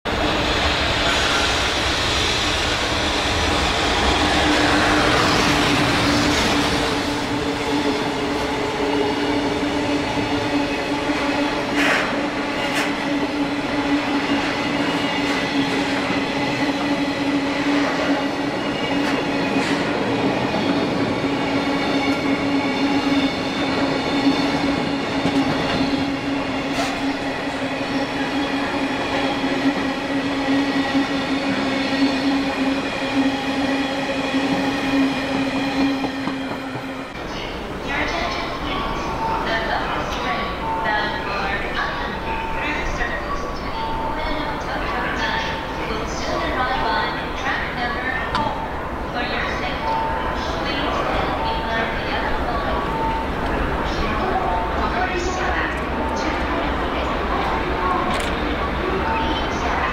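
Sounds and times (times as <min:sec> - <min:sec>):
train wheels on rails: 0:00.1 - 0:48.8
locomotive whine: 0:00.1 - 0:59.9.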